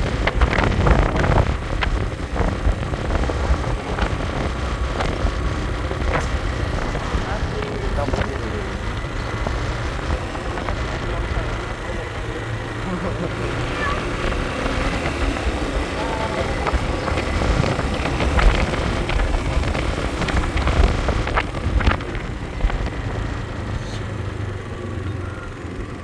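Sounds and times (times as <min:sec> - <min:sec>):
knocks and rattles: 0:00.0 - 0:23.7
wind rumble on microphone: 0:00.0 - 0:24.6
motor scooter engine: 0:00.0 - 0:26.0.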